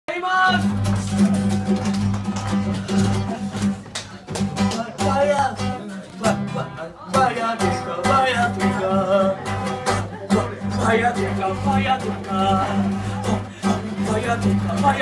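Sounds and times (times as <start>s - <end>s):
man singing: 0.1s - 3.7s, 4.5s - 15.0s
acoustic guitar strumming: 0.4s - 15.0s.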